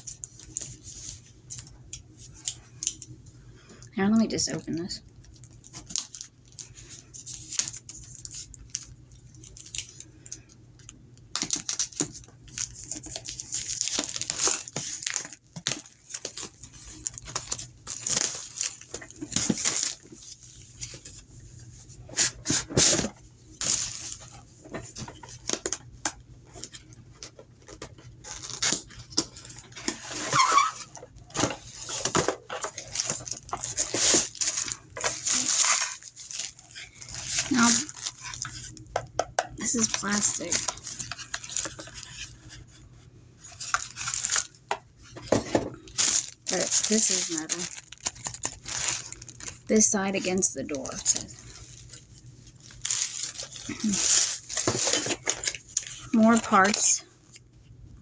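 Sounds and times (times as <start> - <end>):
plastic packaging crinkling: 0.0 - 3.2, 5.2 - 57.4.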